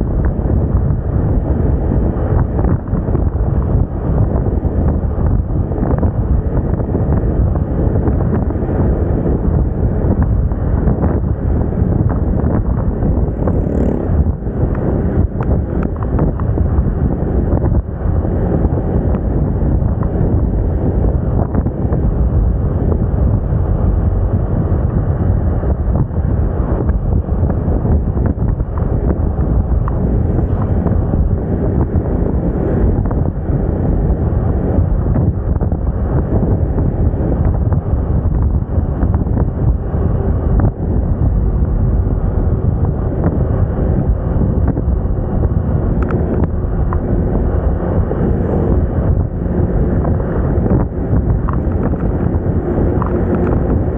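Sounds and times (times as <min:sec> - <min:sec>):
wind buffeting microphone: 0:00.0 - 0:53.9
scooter engine running: 0:00.1 - 0:53.9.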